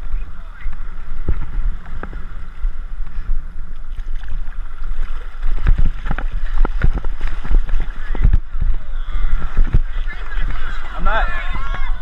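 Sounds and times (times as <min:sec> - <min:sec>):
seawater sloshing and splashing: 0:00.0 - 0:12.0.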